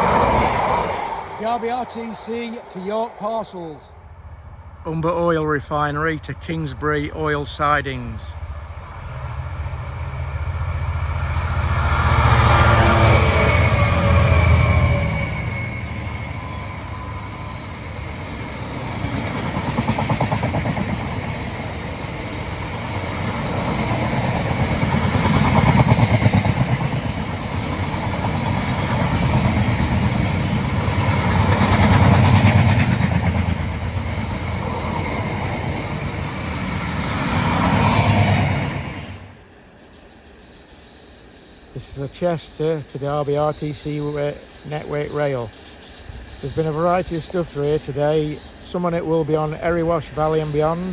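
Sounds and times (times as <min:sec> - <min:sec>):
freight train passing: 0:00.0 - 0:50.9.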